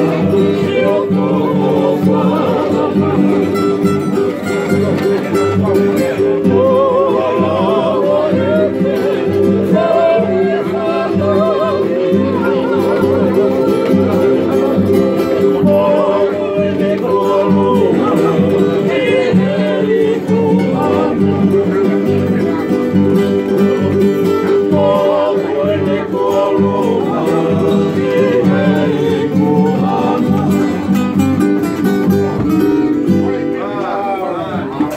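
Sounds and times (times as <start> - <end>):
men singing together: 0.0 - 4.0, 5.6 - 22.7, 24.0 - 31.2
strummed acoustic guitars: 0.0 - 34.9
strummed ukulele: 0.0 - 34.9.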